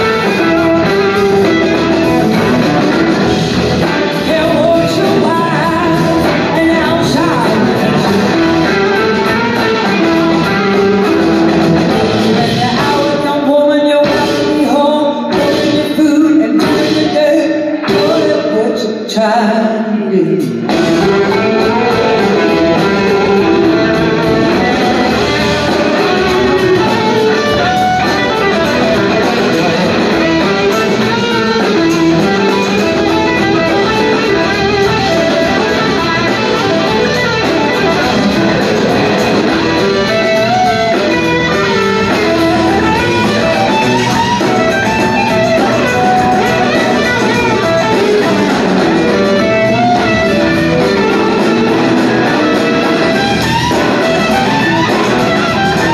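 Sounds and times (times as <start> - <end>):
bass guitar: 0.0 - 18.6, 20.4 - 55.9
drums: 0.0 - 55.9
electric guitars: 0.0 - 55.9.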